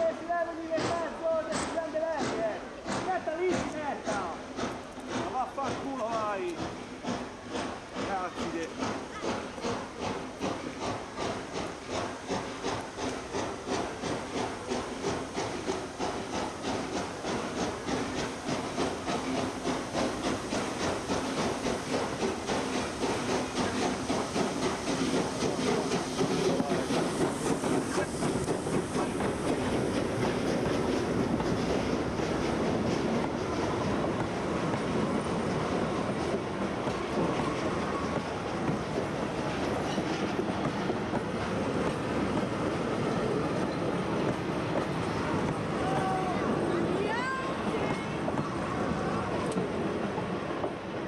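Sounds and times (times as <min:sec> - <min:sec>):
steam hissing: 0:00.0 - 0:51.0
steam locomotive chuffing: 0:00.0 - 0:51.0
train wheels clicking on rail joints: 0:00.0 - 0:51.0.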